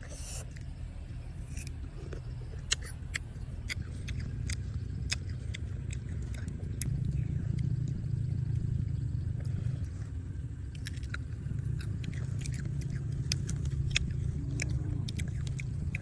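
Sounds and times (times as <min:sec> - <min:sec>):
person chewing crisp food: 0:00.0 - 0:00.8, 0:01.4 - 0:08.2, 0:09.4 - 0:16.0
low background rumble: 0:00.0 - 0:16.0.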